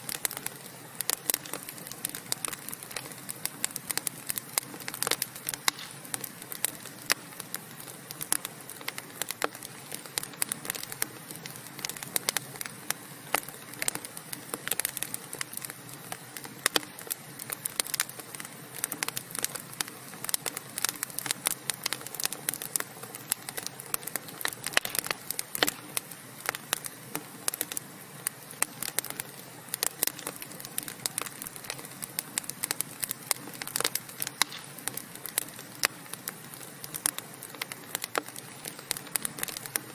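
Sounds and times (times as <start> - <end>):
low fire hiss: 0.0 - 39.9
wood fire crackling and popping: 0.0 - 39.9.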